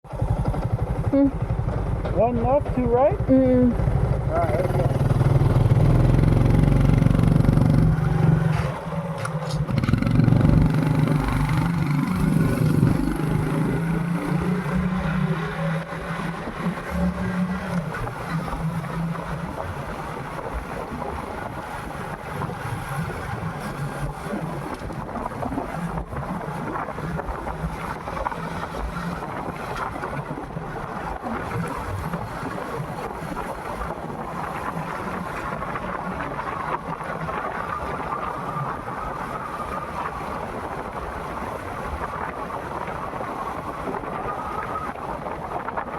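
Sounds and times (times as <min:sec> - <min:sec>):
motorcycle engine accelerating: 0:00.0 - 0:39.8
wind and road noise: 0:00.0 - 0:45.9.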